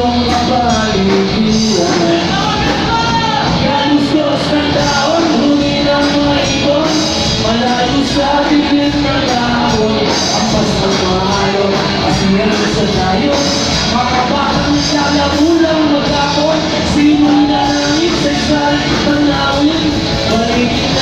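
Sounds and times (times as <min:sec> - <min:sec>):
man singing: 0:00.0 - 0:21.0
rock band playing: 0:00.0 - 0:21.0.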